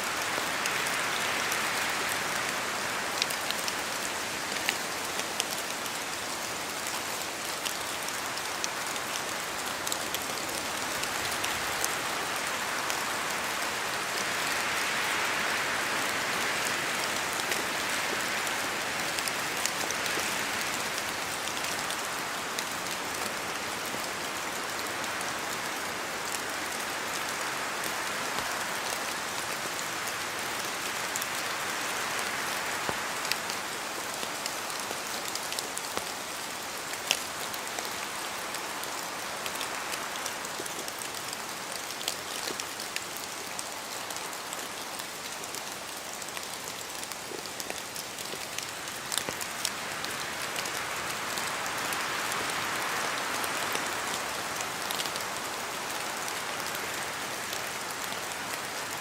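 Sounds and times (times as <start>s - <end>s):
steady rain falling: 0.0s - 59.0s
wind through trees: 0.0s - 59.0s.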